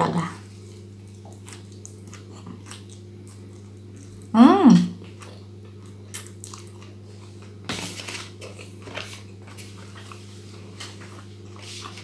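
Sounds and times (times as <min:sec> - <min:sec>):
low electrical hum: 0:00.0 - 0:12.0
chewing crunchy leaves: 0:00.4 - 0:04.3, 0:05.0 - 0:12.0.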